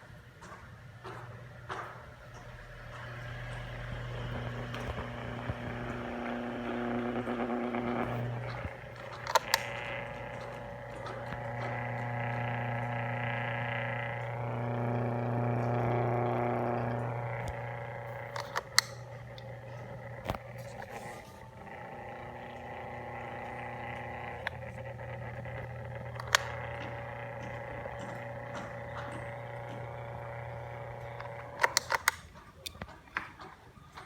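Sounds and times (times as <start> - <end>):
wall fan buzzing and rattling: 0.0 - 34.0
sharp clicks: 2.3 - 34.0.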